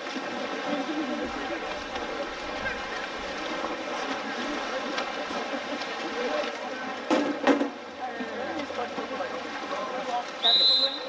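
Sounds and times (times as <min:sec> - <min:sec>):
murmur of distant voices: 0:00.0 - 0:11.0
water splashing in pool: 0:00.0 - 0:11.0.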